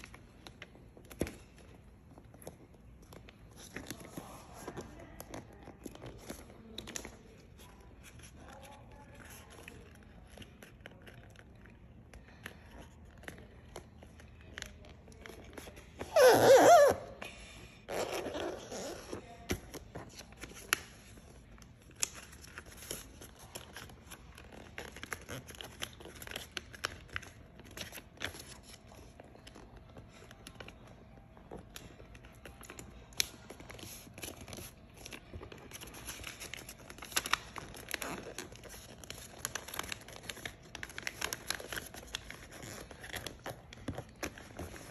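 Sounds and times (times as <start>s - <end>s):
paper folding and rustling: 0.0s - 16.1s, 18.3s - 44.9s.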